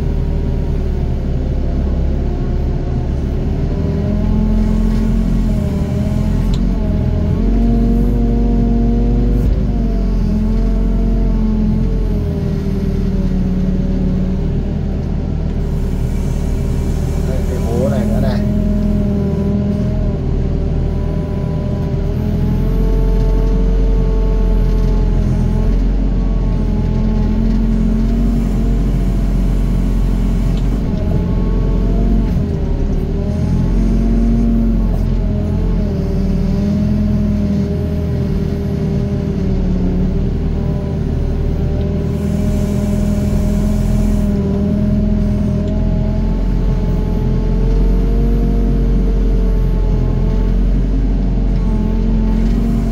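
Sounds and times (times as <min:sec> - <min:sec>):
excavator diesel engine under load: 0:00.0 - 0:52.9.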